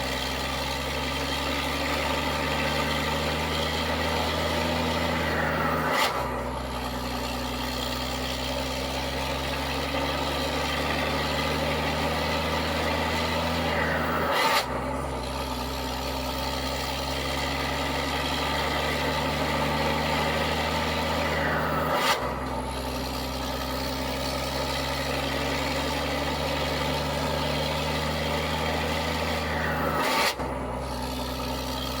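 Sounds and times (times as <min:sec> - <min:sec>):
truck diesel engine pulling: 0:00.0 - 0:32.0.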